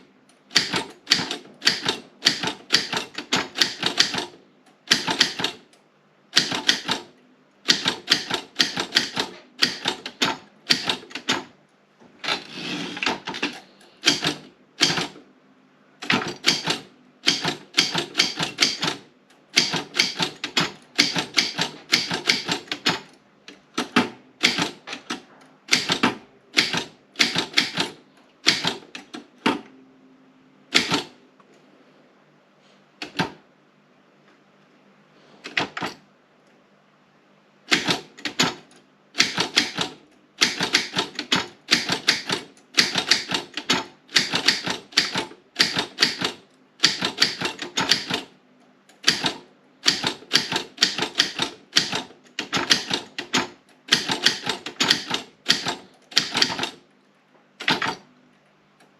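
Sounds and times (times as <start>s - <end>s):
typewriter typing: 0.5s - 5.7s, 6.3s - 11.5s, 12.2s - 15.2s, 16.0s - 29.6s, 30.7s - 31.2s, 33.0s - 33.4s, 35.5s - 36.0s, 37.7s - 48.3s, 49.0s - 56.8s, 57.6s - 58.1s.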